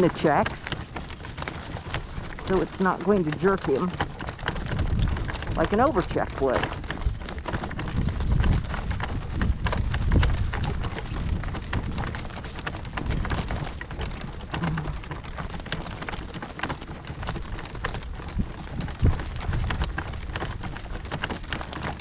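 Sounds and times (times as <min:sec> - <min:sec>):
horse hooves and harness rattling: 0:00.0 - 0:22.0.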